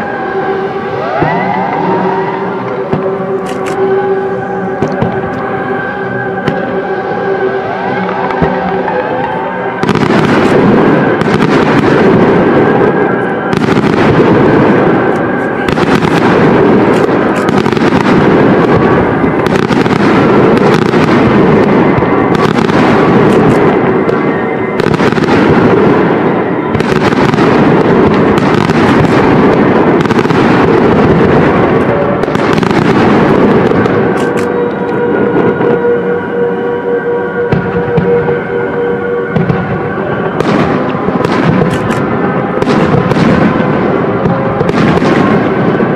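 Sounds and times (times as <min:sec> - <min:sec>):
fireworks bursting and crackling: 0:00.0 - 0:45.9
music with held tones: 0:00.0 - 0:45.9.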